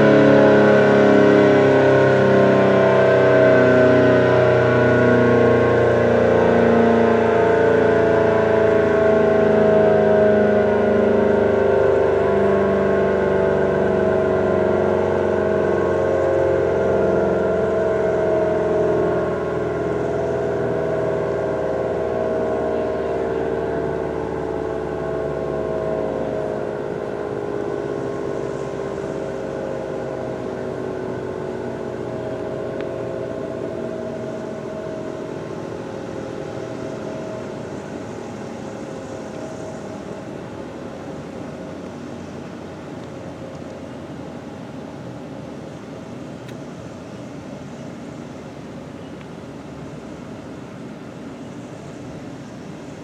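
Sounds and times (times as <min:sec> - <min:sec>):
warning siren winding down: 0:00.0 - 0:45.6.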